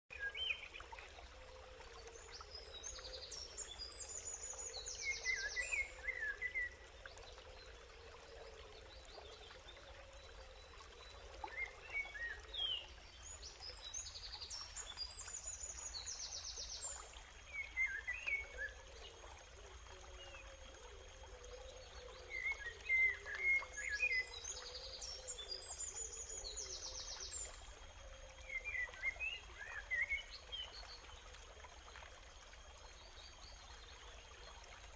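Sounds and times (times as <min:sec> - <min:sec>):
faint running water: 0:00.1 - 0:34.9.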